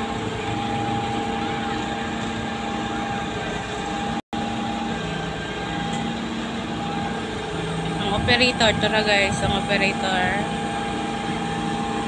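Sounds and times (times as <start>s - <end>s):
concrete pump engine drone: 0.0s - 12.0s.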